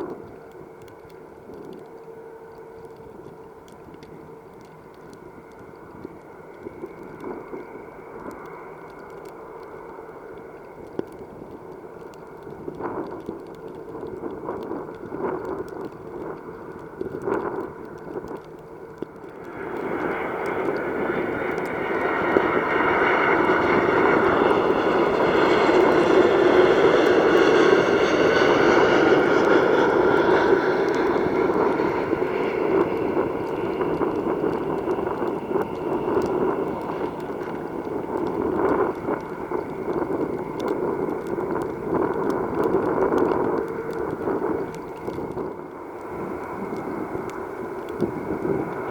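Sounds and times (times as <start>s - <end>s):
jet engine whine sliding down: 0.0s - 48.9s
jet engines of landing airliner: 0.0s - 48.9s.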